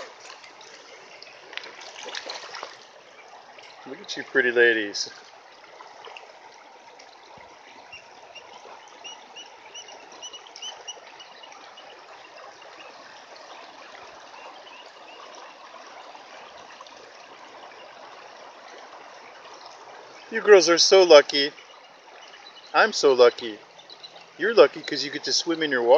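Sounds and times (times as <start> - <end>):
creek water trickling over stones: 0.0 - 25.9.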